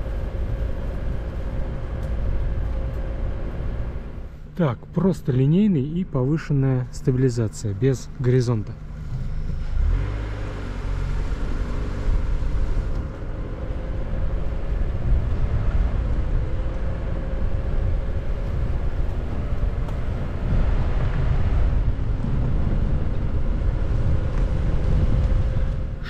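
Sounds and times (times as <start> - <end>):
faint car engine tone: 0.0 - 26.0
road rumble: 0.0 - 26.0.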